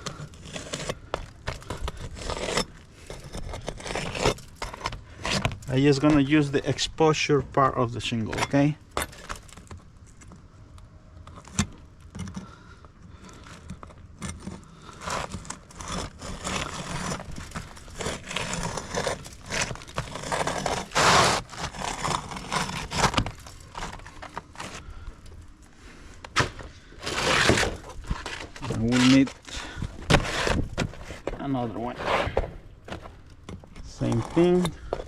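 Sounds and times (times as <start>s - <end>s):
roofing shingle scraping and tearing: 0.0s - 10.6s, 11.3s - 35.0s.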